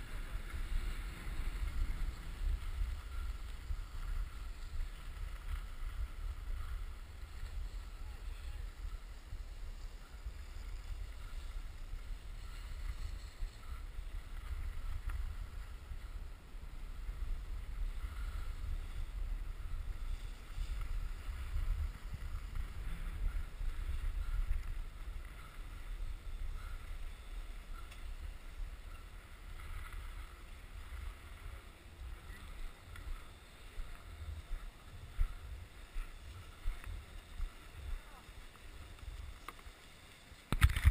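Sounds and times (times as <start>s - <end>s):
wind buffeting microphone: 0.0s - 39.8s
skis sliding over snow: 0.0s - 40.9s.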